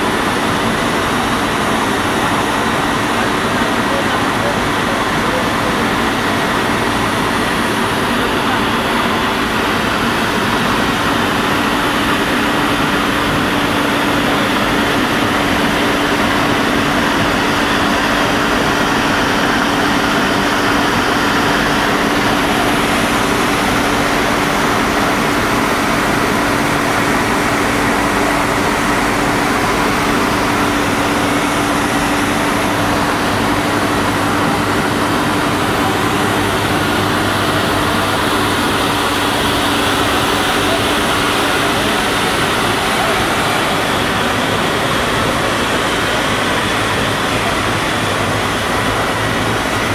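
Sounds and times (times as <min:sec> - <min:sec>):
loud constant machine noise: 0:00.0 - 0:49.9.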